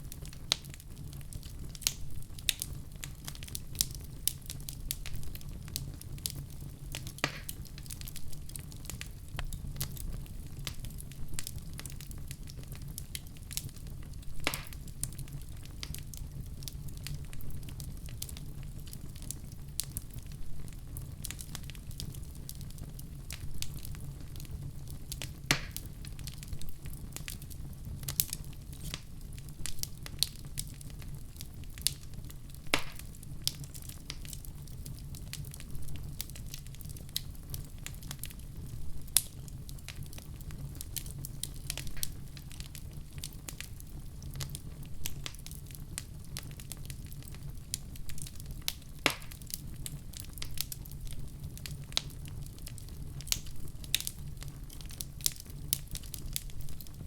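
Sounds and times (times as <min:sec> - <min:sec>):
fireplace fire crackling and popping: 0:00.0 - 0:57.0
low steady fire rumble: 0:00.0 - 0:57.0.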